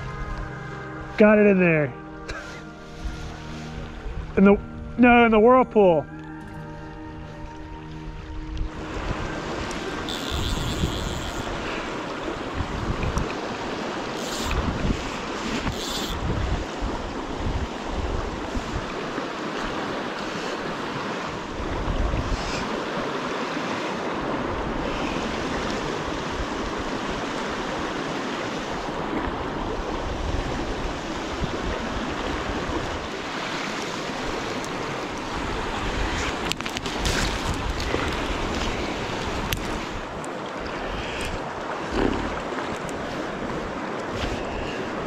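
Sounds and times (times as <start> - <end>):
river water rushing over rocks: 6.2 - 45.0
wind buffeting microphone: 7.4 - 45.0.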